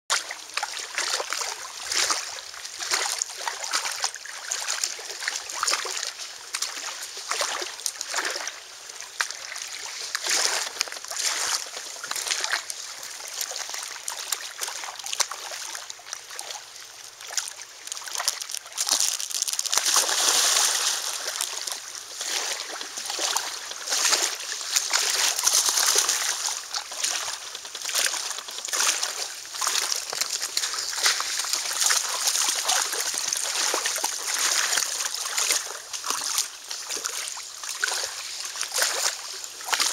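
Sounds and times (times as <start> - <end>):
water lapping against rocks: 0.1 - 39.9.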